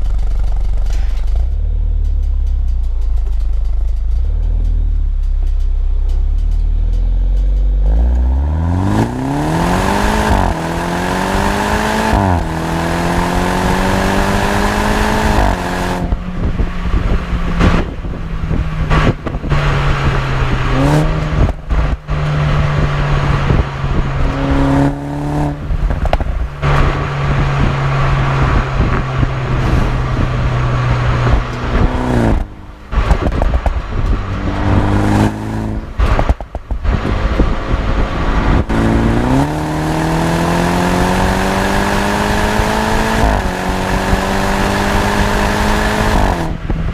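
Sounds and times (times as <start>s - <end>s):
car engine revving: 0.0s - 46.9s
exhaust cracks: 0.0s - 46.9s.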